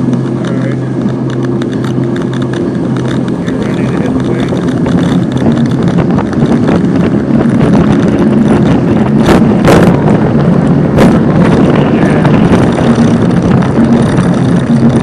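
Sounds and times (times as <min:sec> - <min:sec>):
motorboat engine running: 0:00.0 - 0:15.0
wind on microphone: 0:00.0 - 0:15.0.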